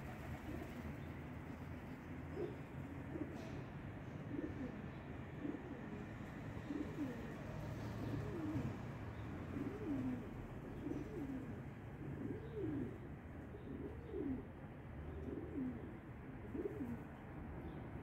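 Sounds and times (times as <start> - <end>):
pigeons cooing: 0.0 - 1.1, 2.3 - 17.2.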